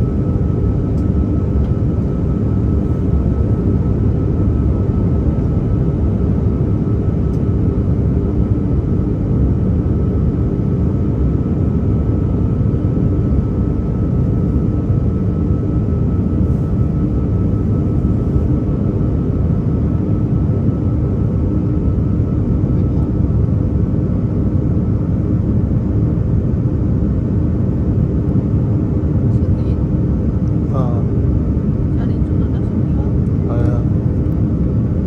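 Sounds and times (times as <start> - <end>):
airplane cabin engine roar: 0.0 - 35.0.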